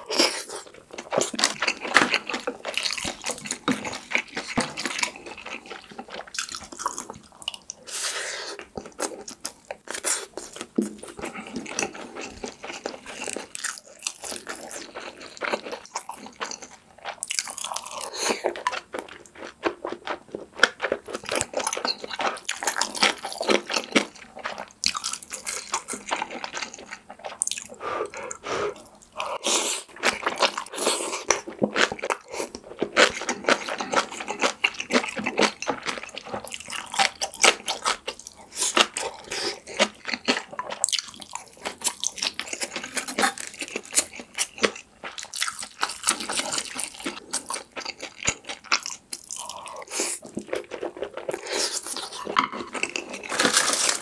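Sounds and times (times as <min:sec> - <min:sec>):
wet chewing and smacking: 0:00.5 - 0:07.9, 0:08.6 - 0:54.0.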